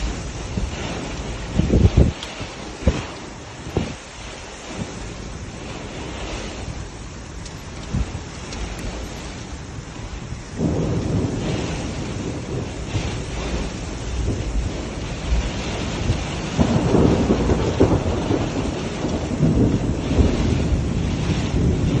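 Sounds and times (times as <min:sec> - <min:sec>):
rain: 0:00.0 - 0:22.0
thunder rumbling: 0:00.0 - 0:22.0.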